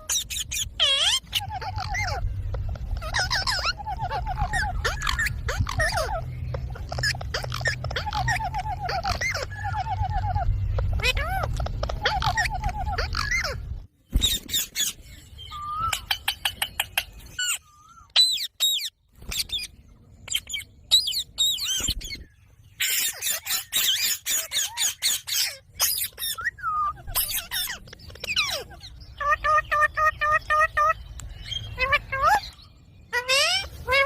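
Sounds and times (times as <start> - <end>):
parrot chirping and squawking: 0.0 - 34.0.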